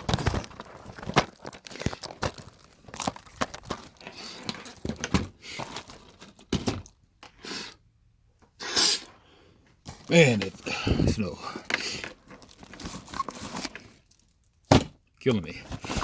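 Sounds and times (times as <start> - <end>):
plastic cases clicking and rustling: 0.0 - 7.4, 9.8 - 15.0, 15.6 - 16.0.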